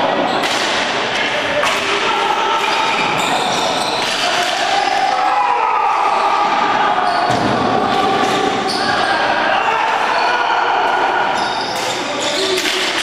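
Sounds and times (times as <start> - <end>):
players shouting: 0.0 - 13.0.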